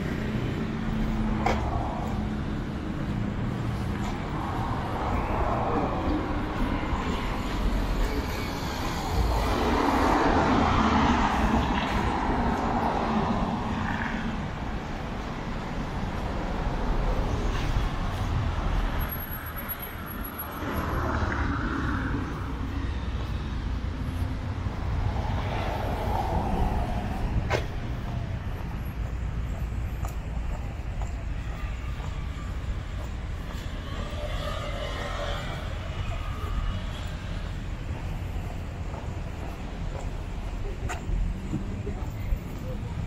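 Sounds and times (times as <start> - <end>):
road traffic passing: 0.0 - 43.0.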